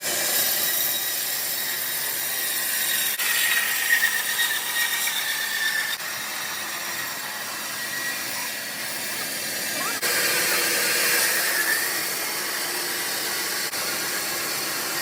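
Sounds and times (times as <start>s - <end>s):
bandsaw cutting log: 0.0s - 15.0s.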